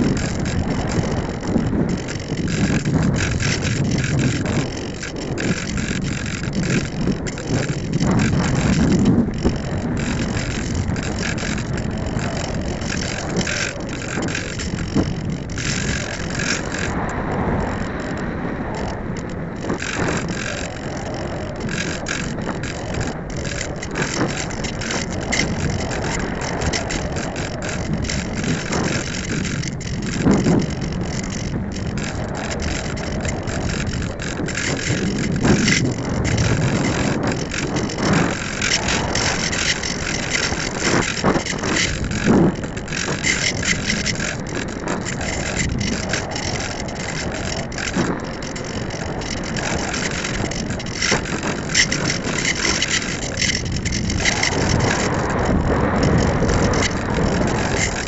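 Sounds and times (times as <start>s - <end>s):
crackling rattle of vibrating camera: 0.0s - 58.0s
wind noise: 0.0s - 58.0s.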